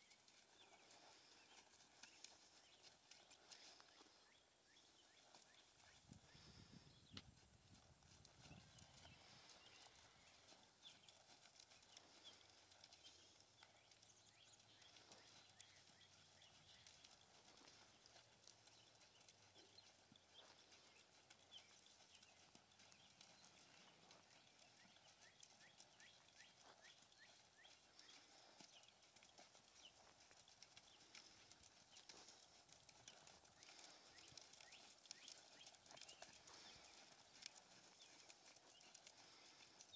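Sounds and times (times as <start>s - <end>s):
horse hoofbeats on sand: 0.0s - 39.9s.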